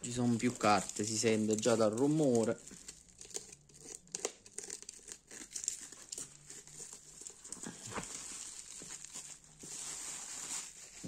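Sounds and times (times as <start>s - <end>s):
soft rustling of packaging: 0.0s - 11.0s.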